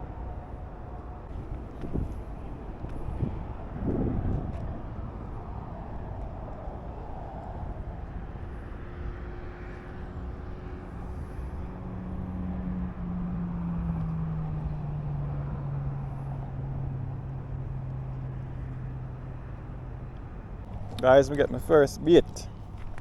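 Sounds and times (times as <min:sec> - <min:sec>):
engine hum: 0:00.0 - 0:23.0
traffic rumble: 0:00.0 - 0:23.0.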